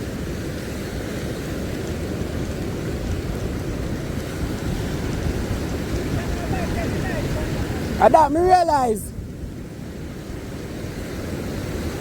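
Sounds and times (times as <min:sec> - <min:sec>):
sea surf on shore: 0:00.0 - 0:12.0
wind rumbling on microphone: 0:00.0 - 0:12.0.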